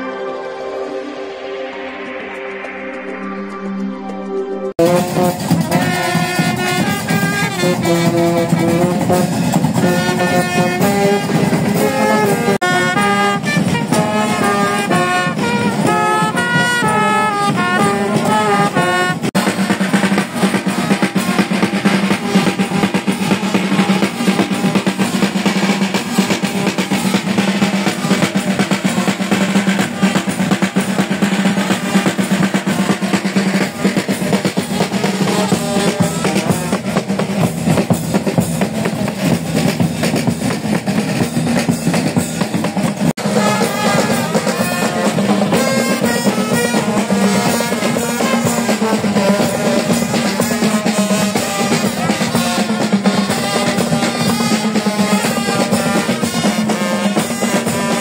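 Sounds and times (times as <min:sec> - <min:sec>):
brass melody: 0:00.0 - 0:58.0
snare and bass drums cadence: 0:04.8 - 0:58.0.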